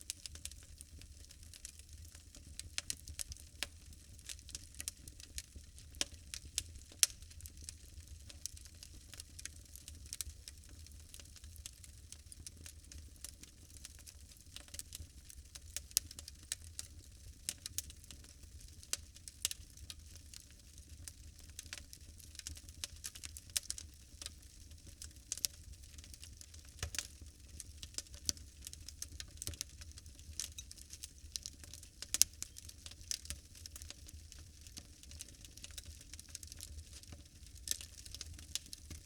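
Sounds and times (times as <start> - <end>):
fire crackling: 0.0 - 39.0.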